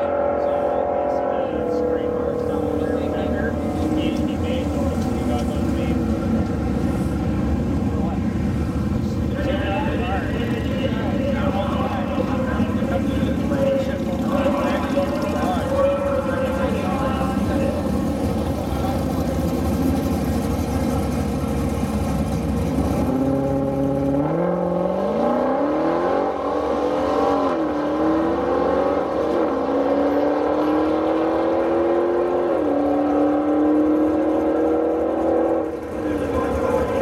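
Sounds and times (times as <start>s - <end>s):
cars accelerating hard: 0.0s - 37.0s.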